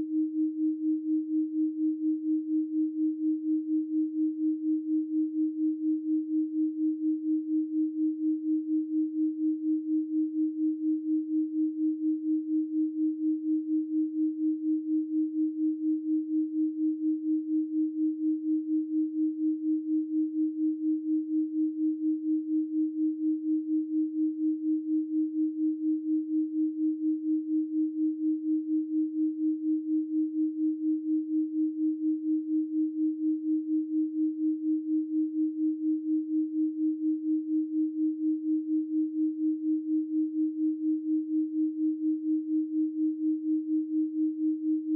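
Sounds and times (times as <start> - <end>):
pulsing sine tone: 0.0 - 44.9.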